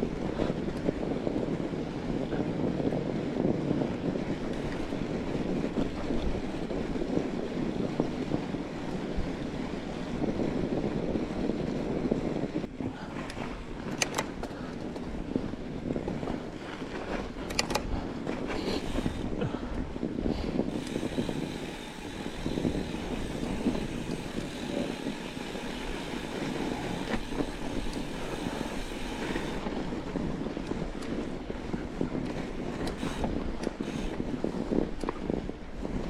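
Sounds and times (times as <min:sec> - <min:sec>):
bike tyre and drivetrain rumble: 0:00.0 - 0:36.0
wind on microphone: 0:00.0 - 0:36.0.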